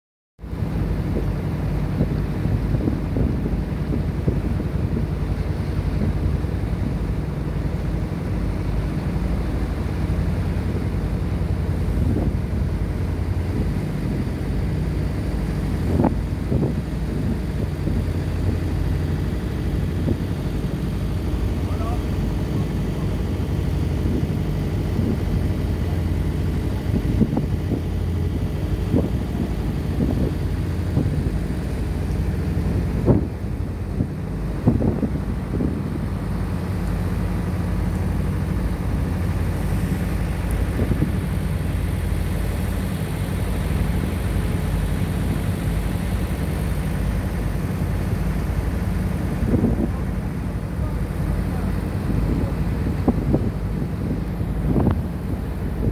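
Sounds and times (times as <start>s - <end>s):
ship engine droning: 0.4s - 55.9s.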